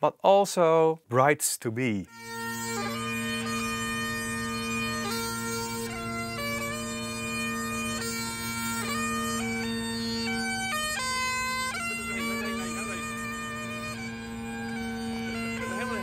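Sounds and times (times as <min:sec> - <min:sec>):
bagpipes playing a lively tune: 0:02.1 - 0:16.0.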